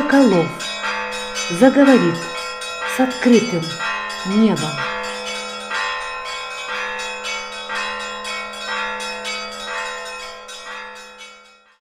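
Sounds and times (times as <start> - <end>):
church bells ringing a peal: 0.0 - 11.8.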